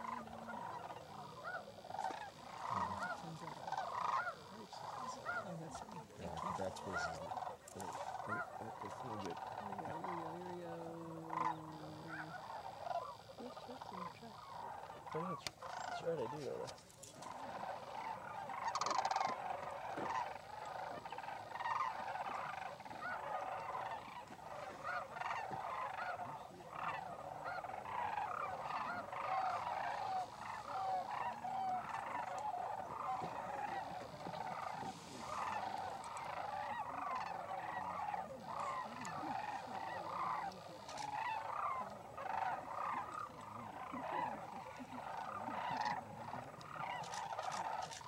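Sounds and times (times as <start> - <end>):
flock of cranes calling: 0.0 - 48.0.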